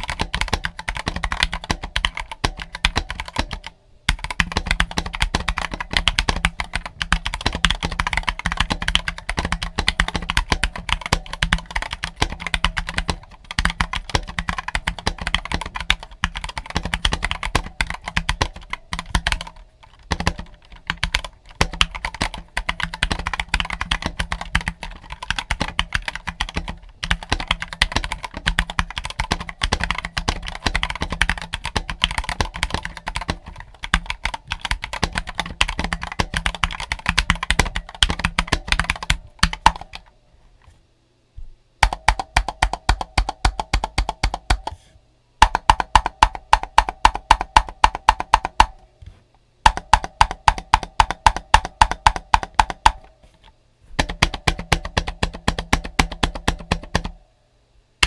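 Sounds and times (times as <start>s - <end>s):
typing on mechanical keyboard: 0.0s - 40.1s, 41.8s - 44.8s, 45.4s - 48.8s, 49.7s - 53.1s, 54.0s - 57.2s.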